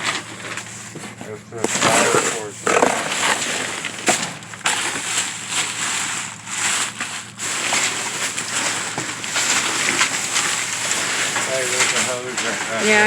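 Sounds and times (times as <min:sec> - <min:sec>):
trash crunching in dumpster: 0:00.0 - 0:13.0.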